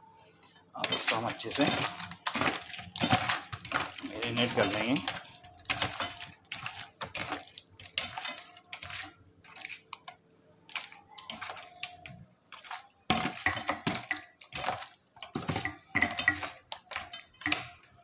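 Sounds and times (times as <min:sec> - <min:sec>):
hand squelching chicken in marinade: 0:00.8 - 0:10.1, 0:10.7 - 0:17.7.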